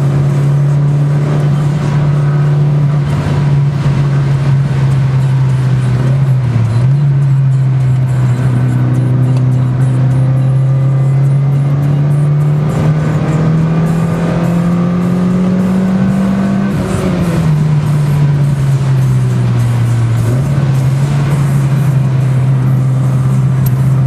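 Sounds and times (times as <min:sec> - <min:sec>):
car engine revving from inside cabin: 0:00.0 - 0:24.0.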